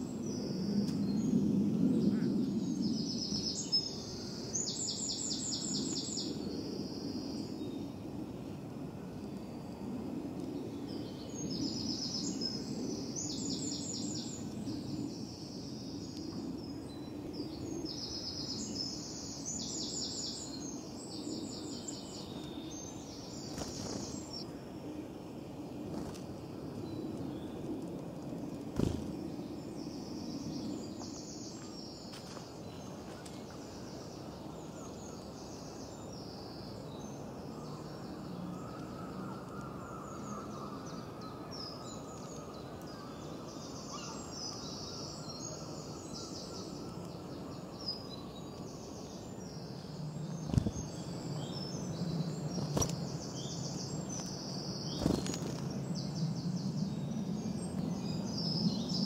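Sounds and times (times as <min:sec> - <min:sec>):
low outdoor background noise: 0:00.0 - 0:59.0
small birds singing trills: 0:00.0 - 0:59.0.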